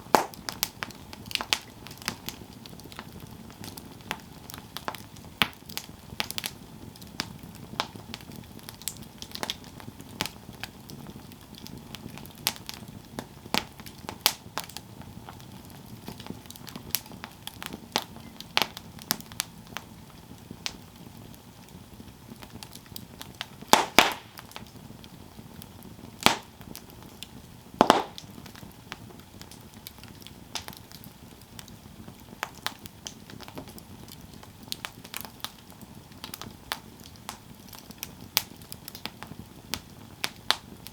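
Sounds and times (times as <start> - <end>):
burning wood popping: 0.0 - 40.9
campfire crackling: 0.0 - 40.9.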